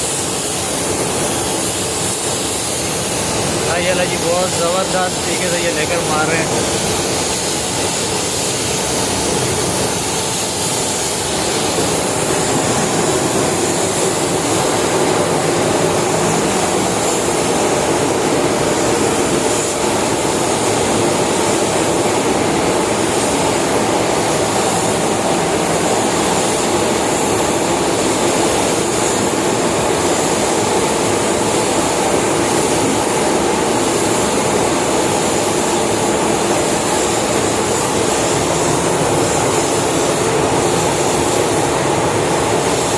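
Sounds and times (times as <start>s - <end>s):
spray gun spraying: 0.0s - 42.9s
ventilation fans running: 0.0s - 42.9s.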